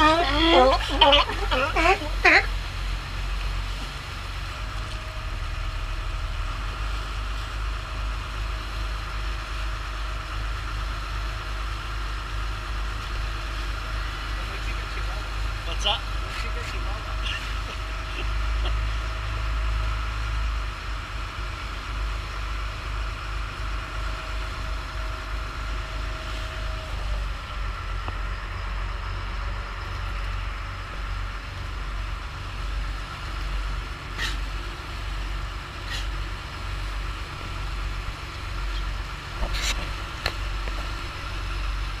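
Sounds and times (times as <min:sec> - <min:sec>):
boat engine running: 0:00.0 - 0:42.0
wake rushing: 0:00.0 - 0:42.0.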